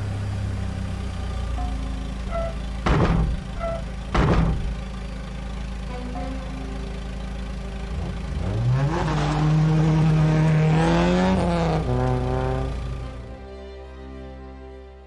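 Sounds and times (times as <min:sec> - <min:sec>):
car engine running and revving: 0:00.0 - 0:14.5.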